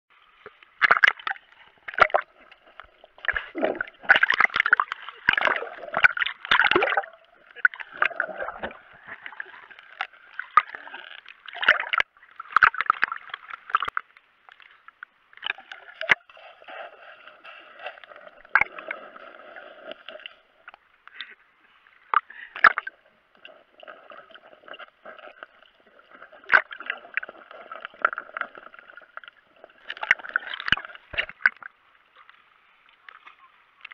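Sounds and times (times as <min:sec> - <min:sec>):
underwater churning and bubbling: 0:00.1 - 0:32.7.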